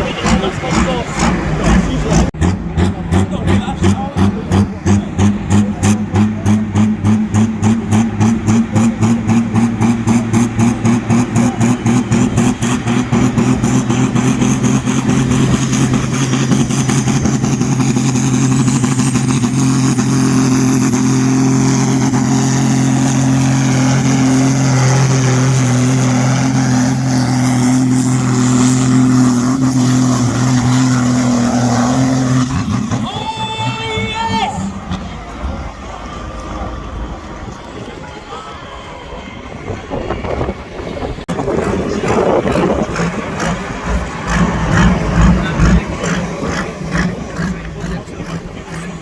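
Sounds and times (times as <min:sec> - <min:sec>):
tractor engine running hard: 0:00.0 - 0:49.0.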